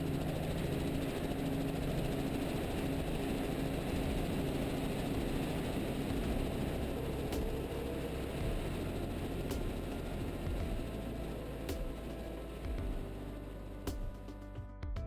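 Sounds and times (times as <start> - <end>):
helicopter engine and rotor: 0.0 - 14.4.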